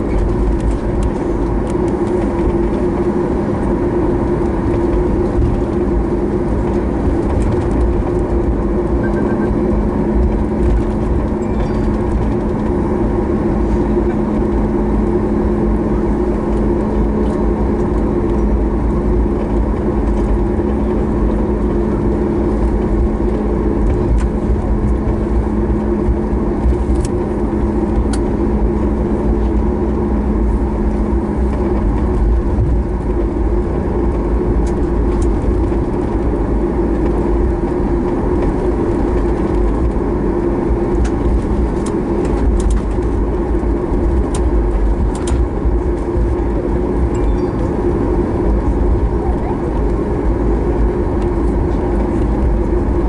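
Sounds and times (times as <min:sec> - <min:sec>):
airplane cabin rumble: 0:00.0 - 0:53.0
jet engines humming at idle: 0:00.0 - 0:53.0.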